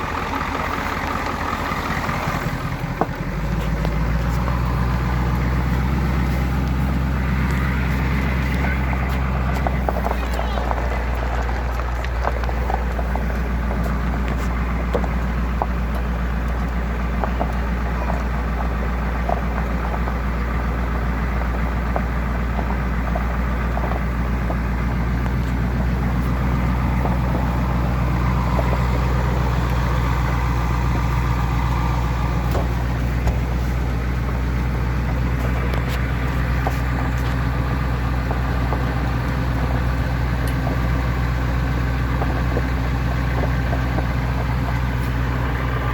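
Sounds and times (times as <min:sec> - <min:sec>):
bus engine humming: 0:00.0 - 0:45.9.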